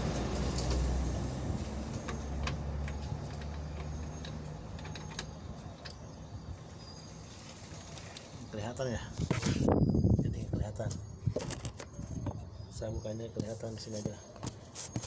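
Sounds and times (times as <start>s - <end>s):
low vehicle engine rumble: 0.0s - 15.0s.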